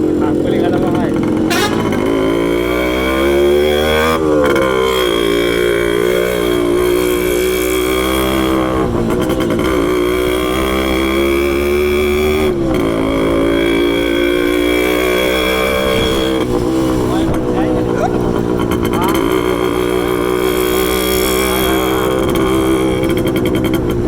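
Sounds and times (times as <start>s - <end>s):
motorcycle engine revving: 0.2s - 24.0s.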